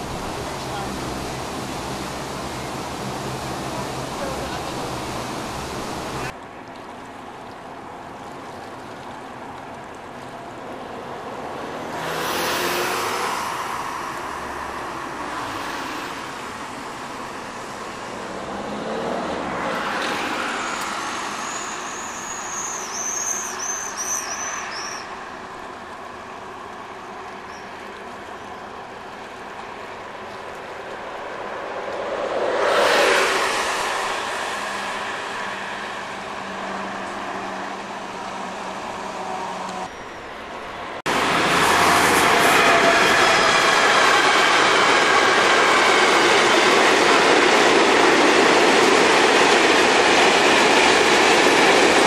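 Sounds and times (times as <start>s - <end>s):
train rumbling past: 0.0s - 6.3s, 11.4s - 27.2s, 28.2s - 52.0s
road vehicles passing: 0.0s - 23.0s, 24.3s - 52.0s.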